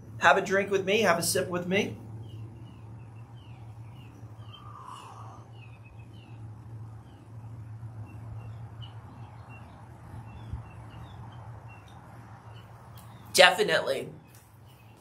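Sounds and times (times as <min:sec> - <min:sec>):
steady low hum: 0:00.0 - 0:15.0
small birds chirping: 0:00.1 - 0:15.0.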